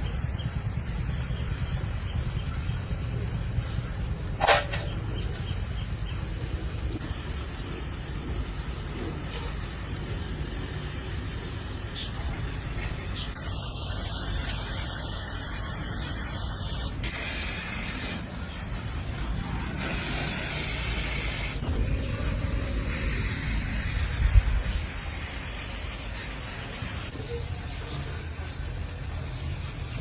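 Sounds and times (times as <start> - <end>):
spraying hiss: 0.0 - 30.0.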